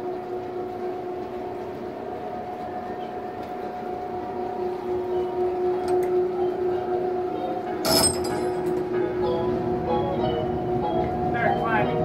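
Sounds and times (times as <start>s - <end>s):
electric hoist motor hum: 0.0s - 12.0s.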